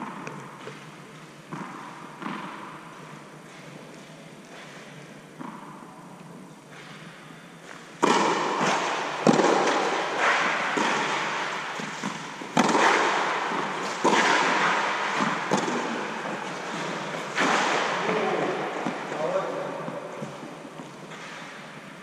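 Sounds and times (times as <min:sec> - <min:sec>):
rackets hitting tennis ball: 0:00.0 - 0:05.9, 0:07.7 - 0:22.0.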